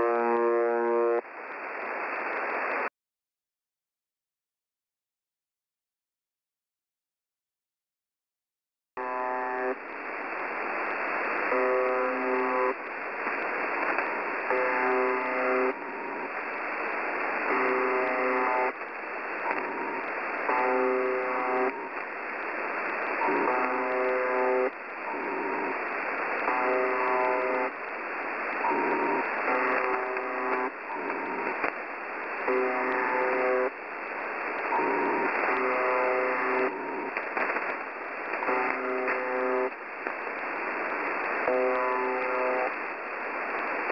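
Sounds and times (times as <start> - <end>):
harsh radio buzzes: 0.0 - 2.9, 9.0 - 43.9
radio static hiss: 0.0 - 2.9, 9.0 - 43.9.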